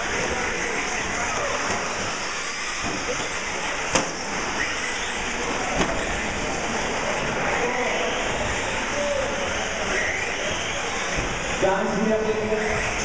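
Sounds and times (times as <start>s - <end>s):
toy trucks motors whirring: 0.0s - 11.6s.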